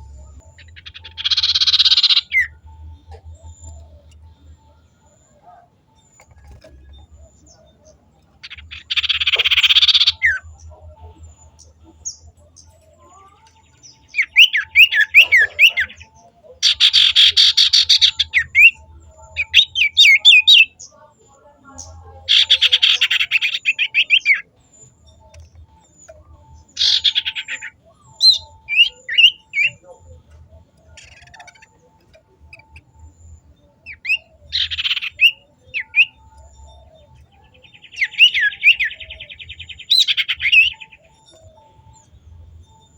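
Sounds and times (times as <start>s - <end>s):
songbird chirping and trilling: 0.0s - 42.9s.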